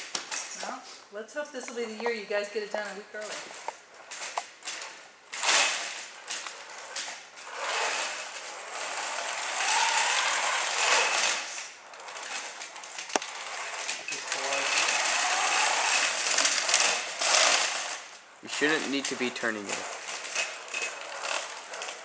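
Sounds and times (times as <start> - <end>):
electric motors whining and rattling: 1.8 - 22.0.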